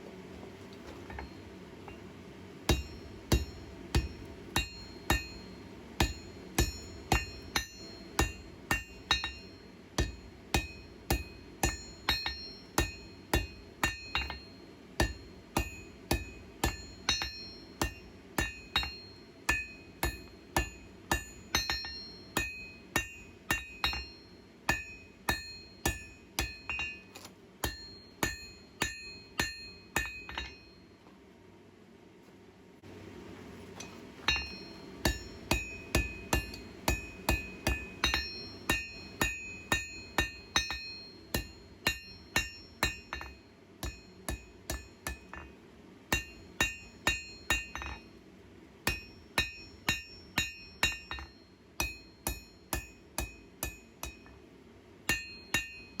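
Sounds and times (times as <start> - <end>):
steady low hum: 0.0 - 56.0
hammer striking steel on anvil: 1.1 - 2.1, 2.7 - 31.0, 33.8 - 48.1, 48.8 - 56.0.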